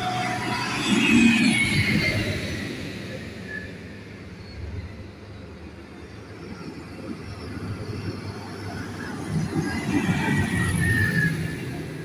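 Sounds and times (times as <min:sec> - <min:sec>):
diesel tractor engines: 0:00.0 - 0:12.0.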